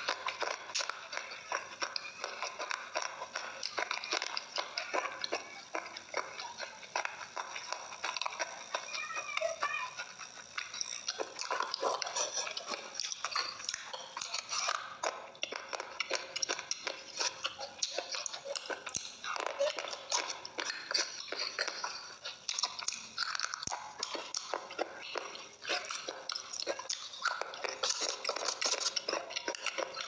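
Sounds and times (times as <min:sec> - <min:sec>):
crunching brittle pieces: 0:00.0 - 0:30.0.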